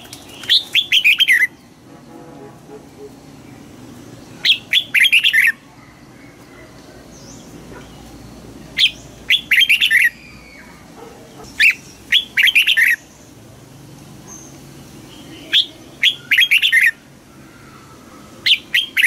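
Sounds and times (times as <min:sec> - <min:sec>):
bulbul singing: 0:00.0 - 0:01.9, 0:03.0 - 0:13.4, 0:14.3 - 0:19.0.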